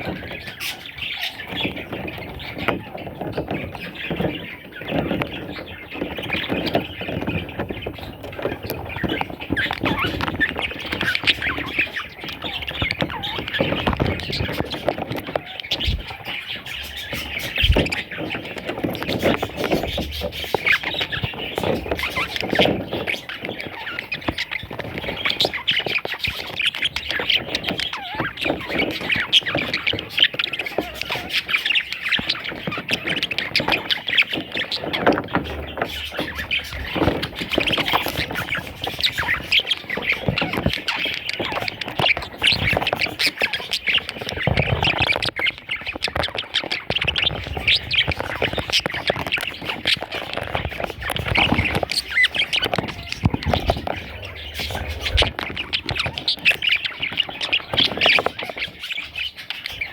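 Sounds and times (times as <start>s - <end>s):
budgerigars chirping and squawking: 0.0s - 59.9s.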